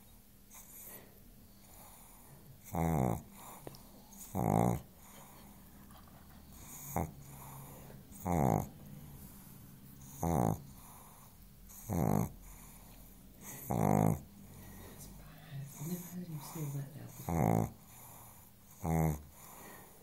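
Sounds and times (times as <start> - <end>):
dog snoring: 0.0 - 20.0.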